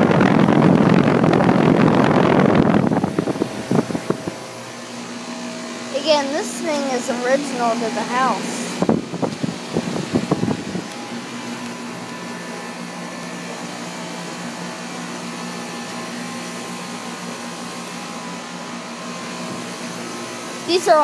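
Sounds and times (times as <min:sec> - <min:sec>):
compressor hum: 0:00.0 - 0:21.0
condenser fan whirring: 0:00.0 - 0:21.0.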